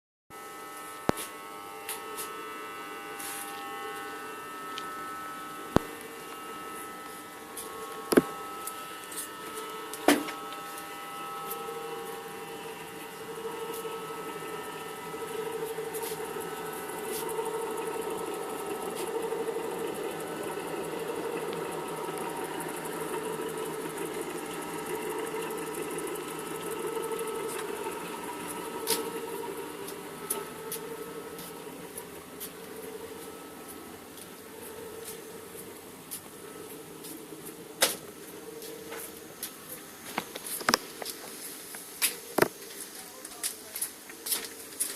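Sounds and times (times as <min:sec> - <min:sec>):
eerie droning hum with tones: 0:00.4 - 0:43.8.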